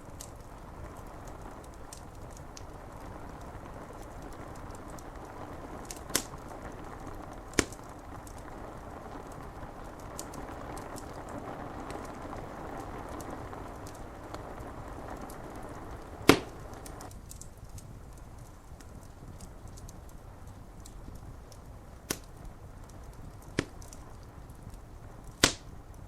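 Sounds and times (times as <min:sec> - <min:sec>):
fire popping: 0:00.0 - 0:26.0
rain on window glass: 0:00.0 - 0:26.0
wood fire crackling: 0:00.0 - 0:26.0.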